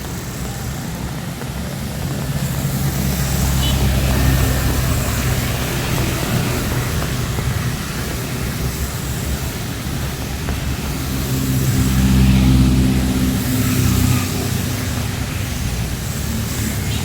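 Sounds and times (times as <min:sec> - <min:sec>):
heavy rain hissing: 0:00.0 - 0:17.0
vehicle engine passing: 0:00.0 - 0:17.0.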